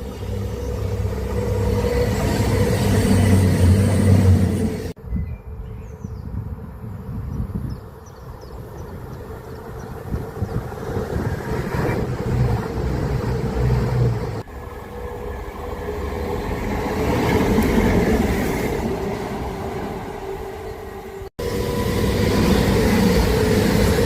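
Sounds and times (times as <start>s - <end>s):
train running on rails: 0.0s - 5.0s, 6.5s - 24.0s.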